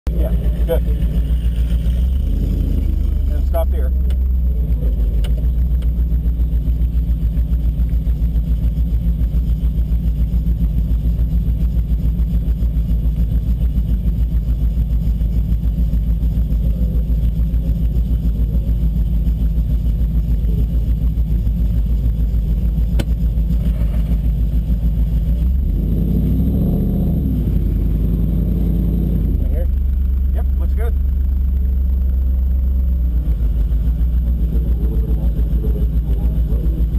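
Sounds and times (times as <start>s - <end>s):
car engine idling: 0.1s - 36.9s.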